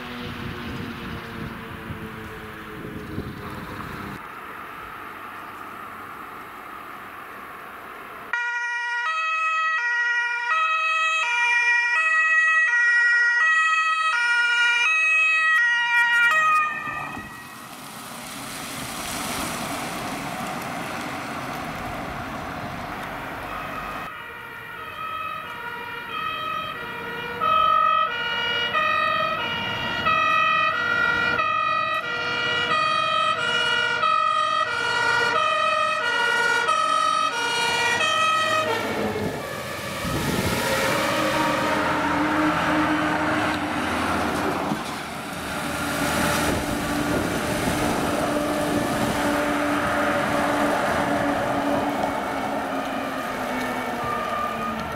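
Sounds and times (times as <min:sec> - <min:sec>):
two-tone sirens: 0:00.0 - 0:05.4, 0:08.3 - 0:17.8, 0:20.3 - 0:54.9
vehicle engine and road noise: 0:00.0 - 0:08.8, 0:11.0 - 0:54.9.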